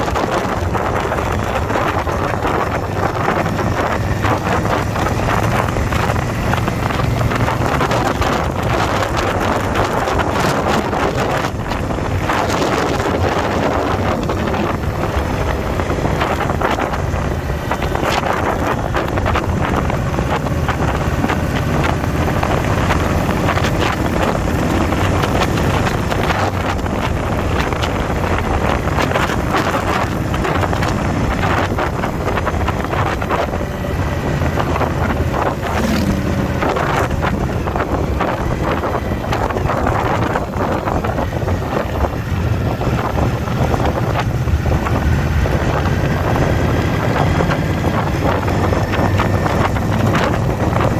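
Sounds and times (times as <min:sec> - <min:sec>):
motorcycle engine drone: 0:00.0 - 0:50.9
wind rushing over microphone: 0:00.0 - 0:50.9.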